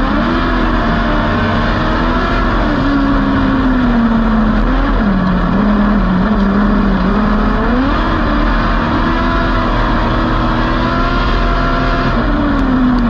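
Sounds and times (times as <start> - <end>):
race car engine revving: 0.0 - 13.0
road and tyre noise: 0.0 - 13.0.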